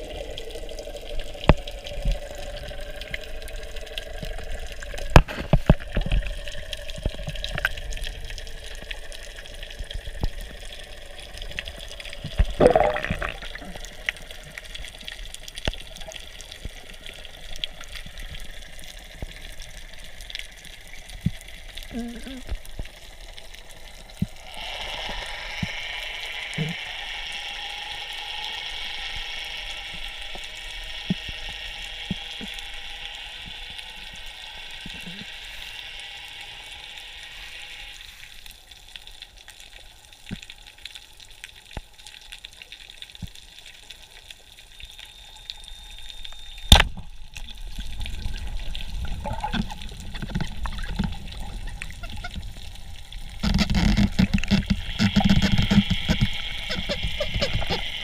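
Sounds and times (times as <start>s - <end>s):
underwater hiss: 0.0s - 38.8s, 47.6s - 58.0s
low rumbling water noise: 0.0s - 58.0s.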